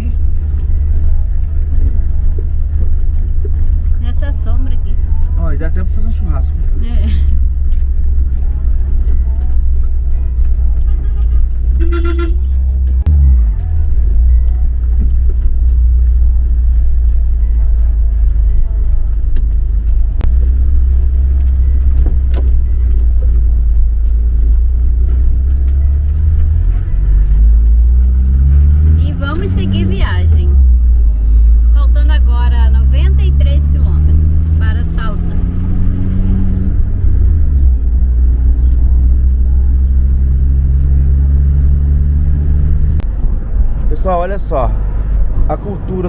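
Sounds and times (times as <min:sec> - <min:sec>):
van engine rumbling: 0:00.0 - 0:46.0.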